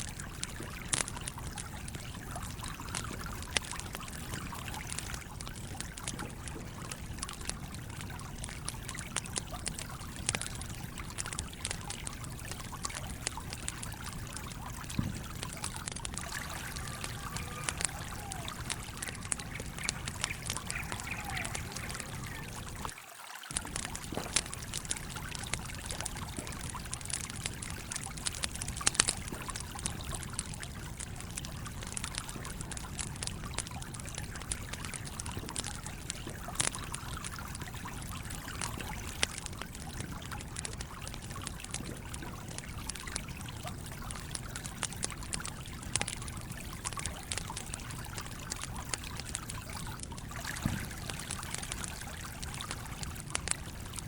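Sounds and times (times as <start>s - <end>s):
campfire crackling and popping: 0.0s - 54.0s
stream flowing: 0.0s - 54.0s.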